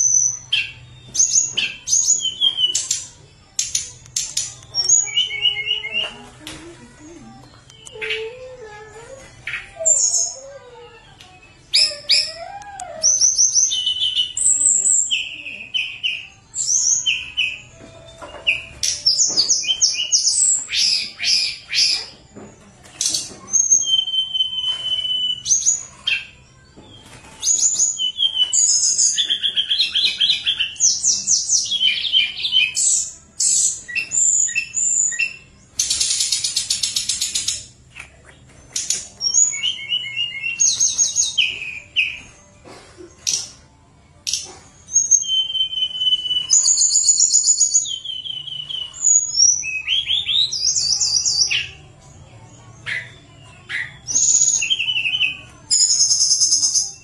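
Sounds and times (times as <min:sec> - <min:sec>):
bird singing whistled notes and trills: 0:00.0 - 0:06.2, 0:07.7 - 0:42.5, 0:43.2 - 0:57.0.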